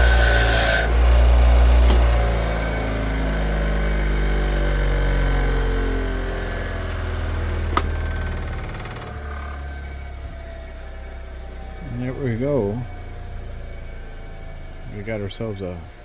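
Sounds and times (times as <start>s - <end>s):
electric motor winding down: 0.0s - 16.0s.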